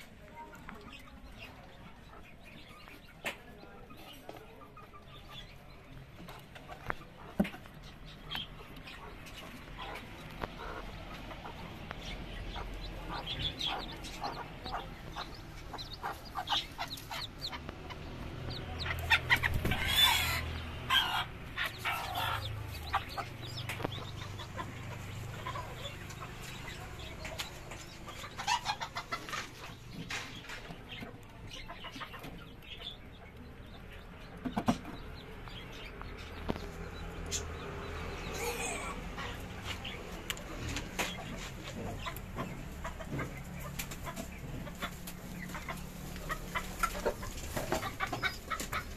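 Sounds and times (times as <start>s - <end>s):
chicken clucking: 0.0s - 48.9s.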